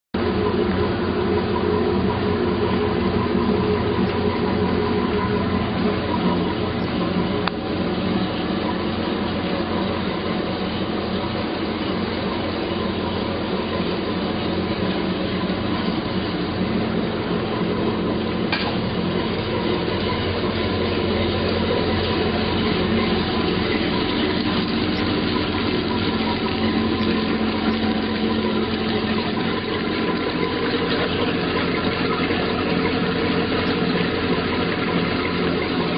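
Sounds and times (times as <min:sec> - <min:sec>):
boat engine idling: 0:00.2 - 0:35.9
water splashing: 0:00.2 - 0:35.9.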